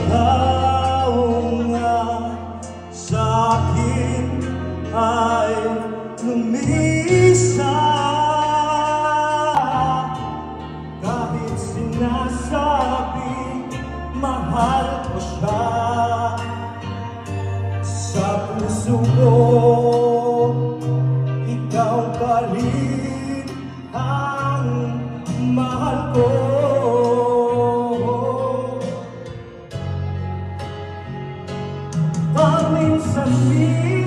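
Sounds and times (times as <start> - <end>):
man singing into a microphone: 0.0 - 29.8, 32.1 - 34.0
amplified backing music: 0.0 - 34.0.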